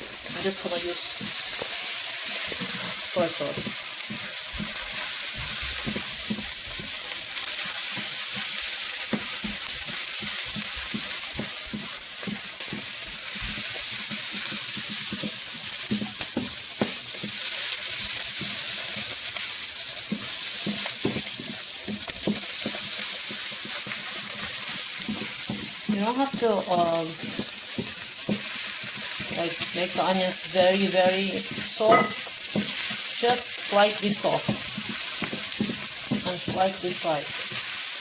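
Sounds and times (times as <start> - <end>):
beef and onions sizzling: 0.0 - 38.0.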